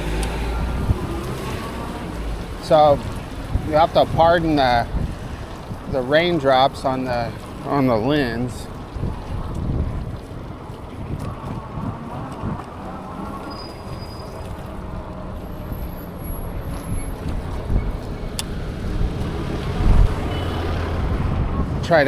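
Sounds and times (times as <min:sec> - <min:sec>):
passing vehicles hum: 0:00.0 - 0:07.8, 0:08.5 - 0:22.0
wind rumbling on microphone: 0:00.0 - 0:22.0.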